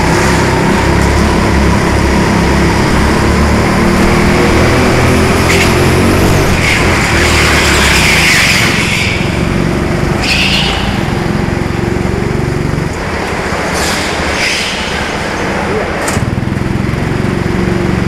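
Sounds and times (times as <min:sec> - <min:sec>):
go-kart engine running: 0:00.0 - 0:18.0.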